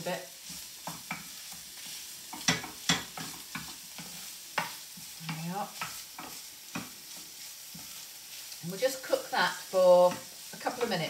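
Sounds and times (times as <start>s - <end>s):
food sizzling in a pan: 0.0s - 11.0s
spoon scraping pan: 0.1s - 11.0s.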